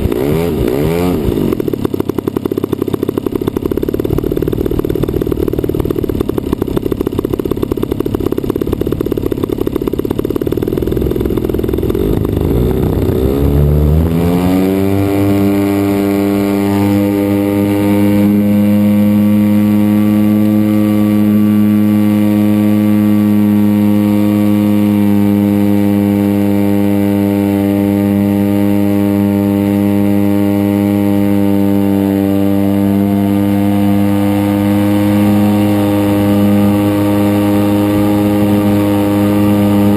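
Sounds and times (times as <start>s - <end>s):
model plane engine revving: 0.0s - 39.9s.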